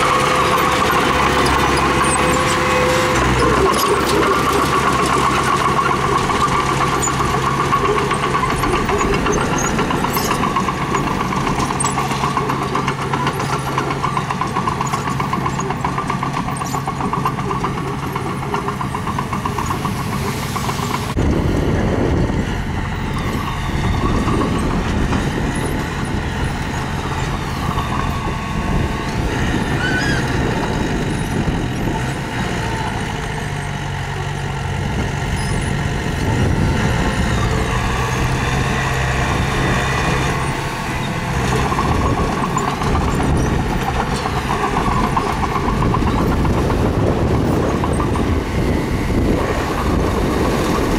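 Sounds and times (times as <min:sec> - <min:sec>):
heavy machinery diesel engine: 0:00.0 - 0:50.9.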